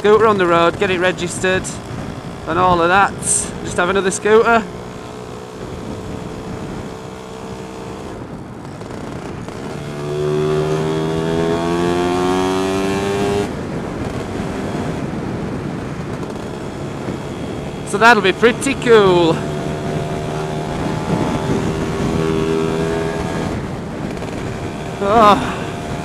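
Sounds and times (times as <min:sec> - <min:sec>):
scooter engine running: 0:00.0 - 0:26.0
wind noise on microphone: 0:00.0 - 0:26.0.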